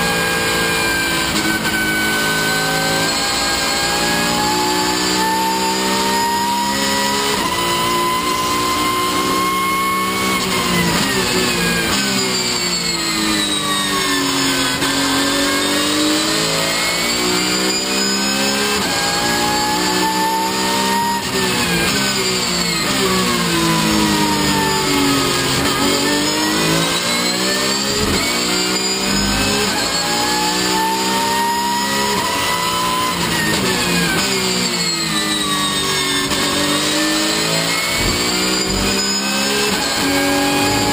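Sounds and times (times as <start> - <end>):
racing car engine from cabin: 0.0 - 40.9.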